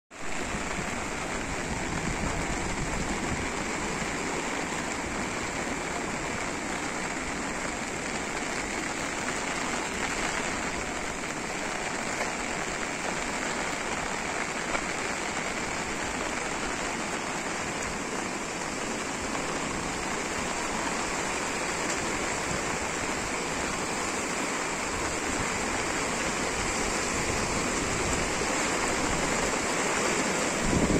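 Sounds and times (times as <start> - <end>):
falling rain: 0.1 - 30.9
flooding river rushing: 0.1 - 30.9.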